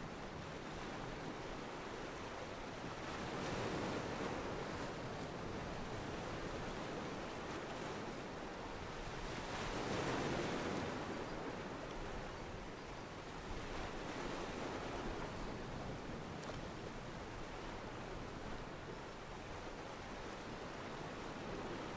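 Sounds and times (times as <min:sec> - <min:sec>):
waves lapping against a pier: 0:00.0 - 0:21.9.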